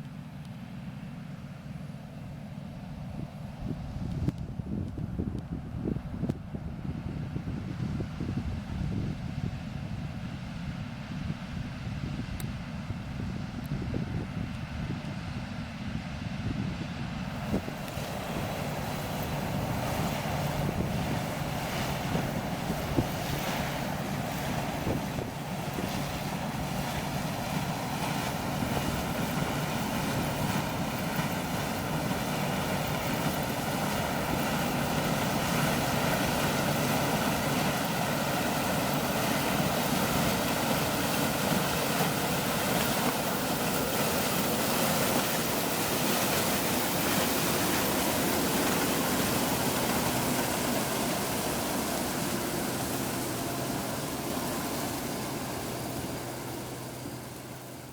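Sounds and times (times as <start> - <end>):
harvest machinery engine running: 9.6 - 57.9.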